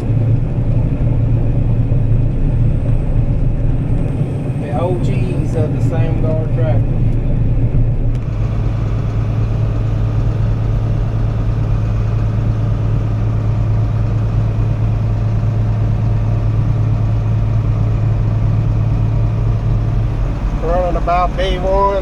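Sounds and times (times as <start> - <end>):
combine harvester droning: 0.0 - 22.0.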